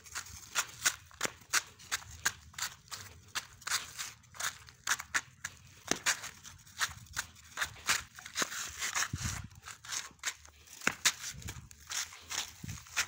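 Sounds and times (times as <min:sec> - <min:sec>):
footsteps on gritty concrete: 0:00.0 - 0:13.0.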